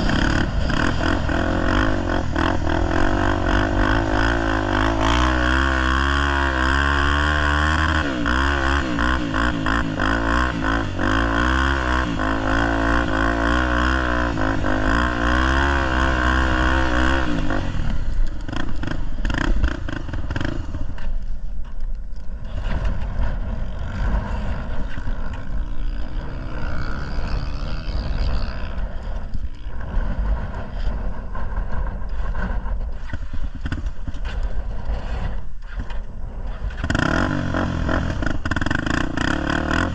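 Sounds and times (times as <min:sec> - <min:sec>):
rough rushing rattling noise: 0:00.0 - 0:21.0, 0:22.4 - 0:39.9
motorcycle engine revving: 0:00.0 - 0:21.3, 0:22.4 - 0:39.9.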